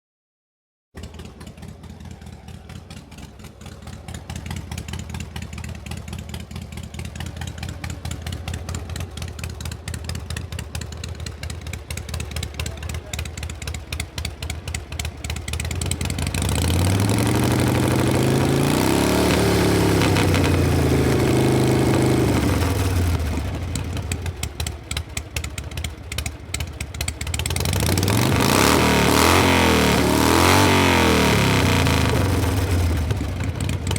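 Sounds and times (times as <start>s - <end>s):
motorcycle engine idling and revving: 0.9s - 33.9s.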